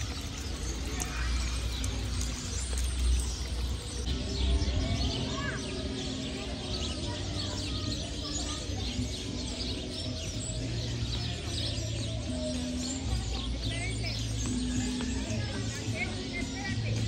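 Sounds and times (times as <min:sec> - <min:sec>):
birds chirping chorus: 0:00.0 - 0:17.0.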